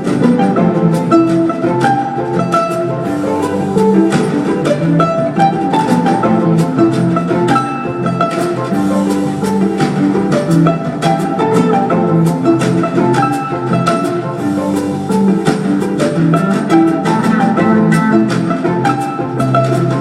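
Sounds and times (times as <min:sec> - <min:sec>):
plucked and bowed strings music: 0:00.0 - 0:20.0.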